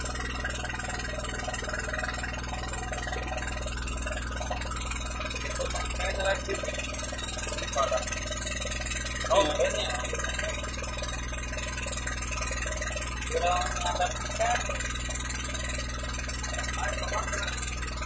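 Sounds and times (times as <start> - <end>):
small boat motor running: 0.0 - 18.0.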